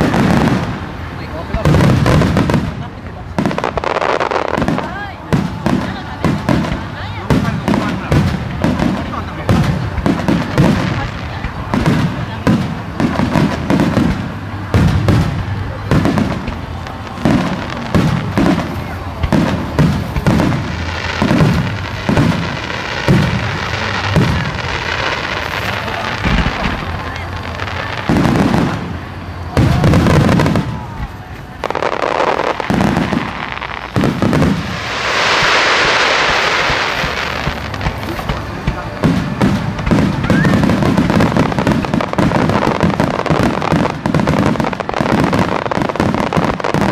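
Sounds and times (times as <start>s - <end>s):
fireworks booming: 0.0s - 46.9s
loud steady hiss: 0.0s - 46.9s.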